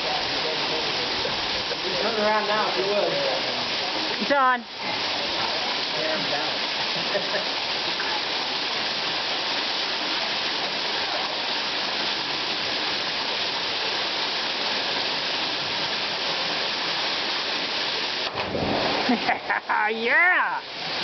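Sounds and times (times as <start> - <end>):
waterfall pouring into pool: 0.0 - 21.0.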